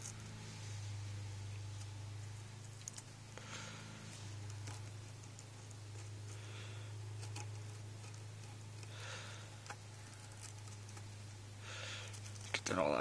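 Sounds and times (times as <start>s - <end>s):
steady low hum: 0.0s - 13.0s
wire rustling and scraping: 0.0s - 13.0s.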